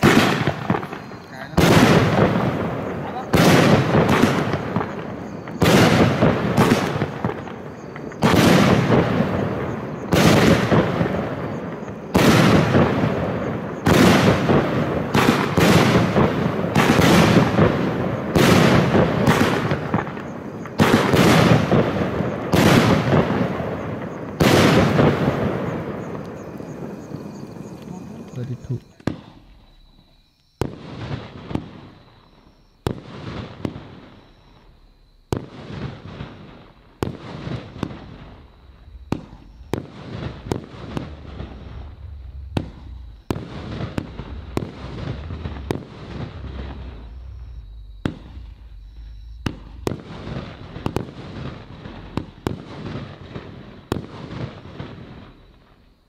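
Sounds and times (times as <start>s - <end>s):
firework shots cracking: 0.0s - 55.8s
dense firework crackling: 0.0s - 56.0s.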